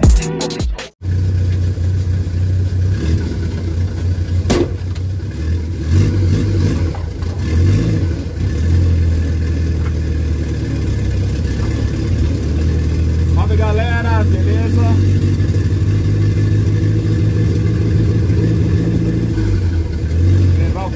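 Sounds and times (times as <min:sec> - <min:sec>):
car engine running at low revs: 0:01.0 - 0:20.9.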